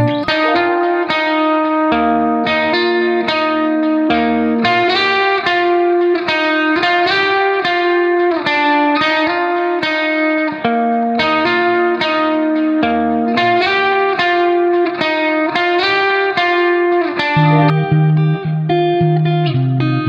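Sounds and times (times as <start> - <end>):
plucked guitar melody: 0.0 - 20.0.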